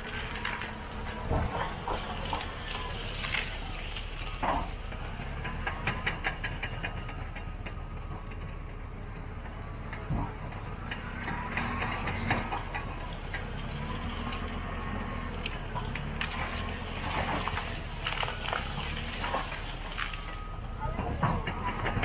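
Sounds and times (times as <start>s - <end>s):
bulldozer tracks clanking: 0.0s - 22.0s
diesel engine drone: 0.0s - 22.0s.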